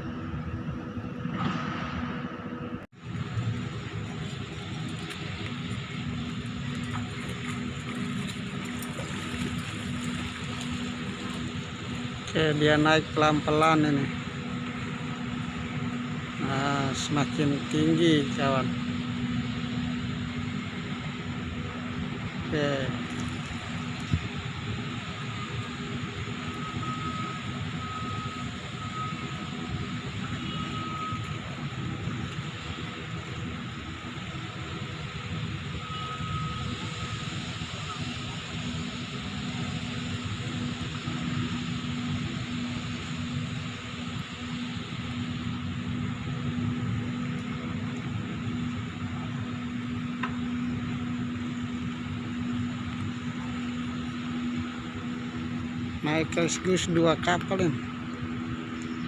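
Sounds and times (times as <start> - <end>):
machinery drone: 0.0 - 59.0
winch mechanical rumble: 2.3 - 59.0
faint thin whine: 3.1 - 59.0.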